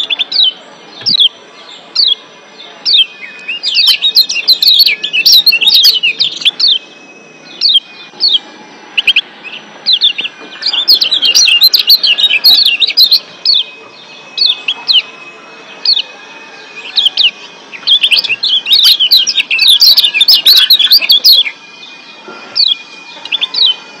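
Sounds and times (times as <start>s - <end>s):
bird chirping rapidly: 0.0s - 23.9s.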